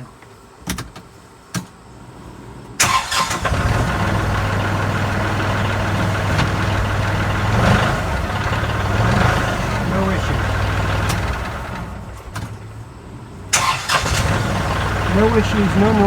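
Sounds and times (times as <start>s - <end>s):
tractor diesel engine starting: 2.8s - 16.0s.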